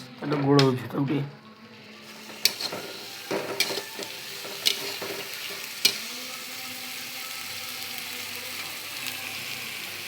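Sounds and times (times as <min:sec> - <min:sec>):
masala sizzling in hot oil: 0:01.6 - 0:10.0.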